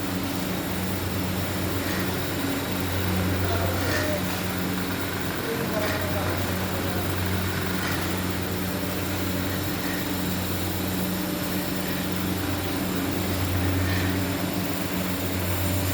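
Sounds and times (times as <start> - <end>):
machinery low hum: 0.0 - 15.9.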